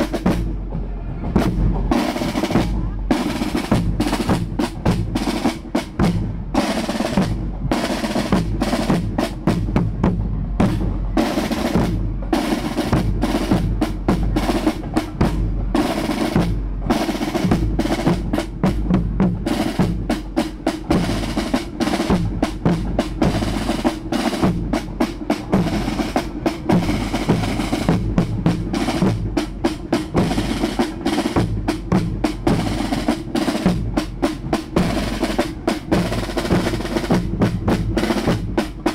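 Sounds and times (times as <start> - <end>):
marching snare drums with rolls: 0.0 - 38.9.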